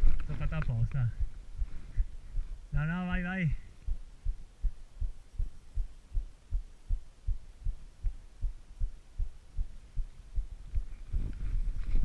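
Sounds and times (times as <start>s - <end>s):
muffled low thumps: 0.0s - 12.0s.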